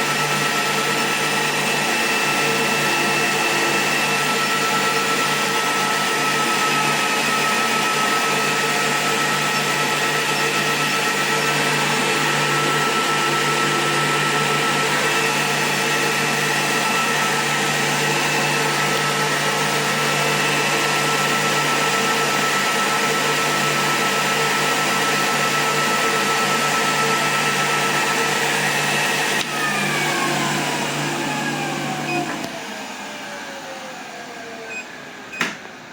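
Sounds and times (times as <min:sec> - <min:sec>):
electric motor running: 0:00.0 - 0:34.6
motor whine: 0:00.0 - 0:35.8.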